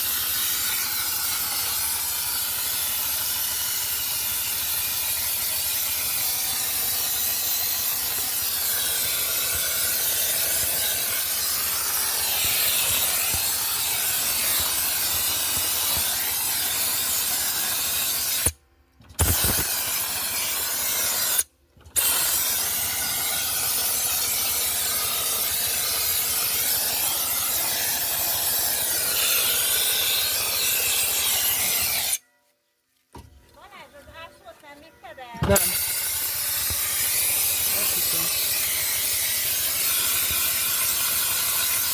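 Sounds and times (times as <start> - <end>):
dry ice blasting hiss: 0.0 - 18.6, 19.2 - 32.2, 35.4 - 41.9.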